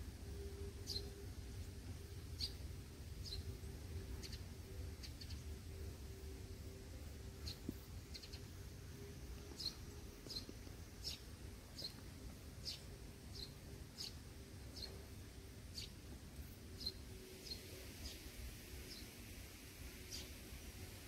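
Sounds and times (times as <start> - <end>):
faint low hum: 0.0 - 21.0
bird chirping: 0.2 - 16.1, 16.7 - 19.2, 19.9 - 20.9.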